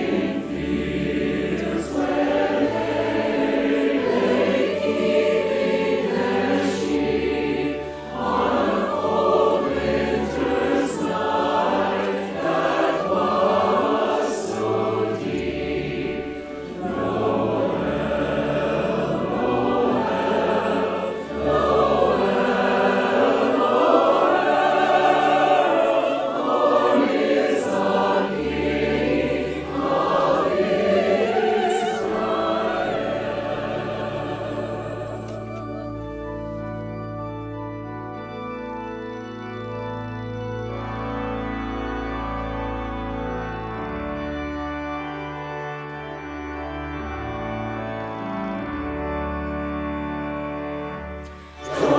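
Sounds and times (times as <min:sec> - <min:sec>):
choir singing a hymn: 0:00.0 - 0:37.1, 0:38.1 - 0:51.9.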